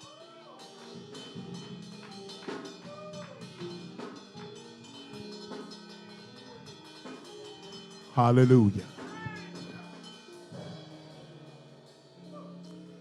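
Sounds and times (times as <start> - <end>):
soft instrumental church music: 0.0 - 13.0.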